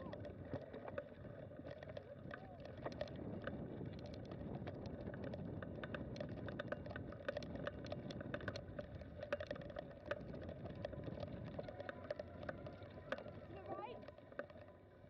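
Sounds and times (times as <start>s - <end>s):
clicks and rattles: 0.0s - 14.7s
bicycle rolling on dirt trail: 0.0s - 15.0s.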